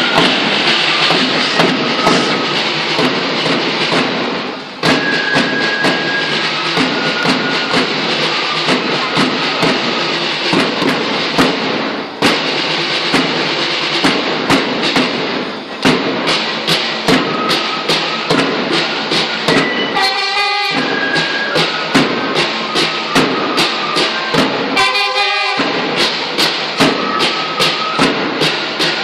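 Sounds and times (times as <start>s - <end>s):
marching band drums rattling: 0.0s - 29.0s.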